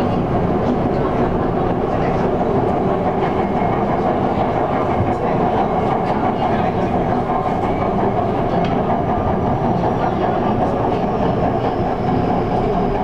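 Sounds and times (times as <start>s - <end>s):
light-rail car running on track: 0.0s - 13.0s.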